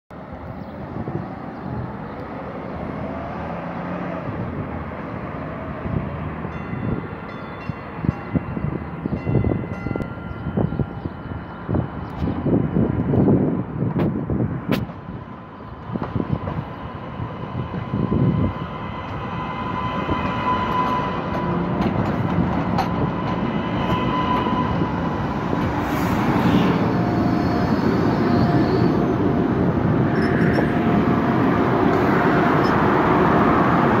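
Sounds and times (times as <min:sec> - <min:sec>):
light-rail train rumbling: 0:00.1 - 0:34.0.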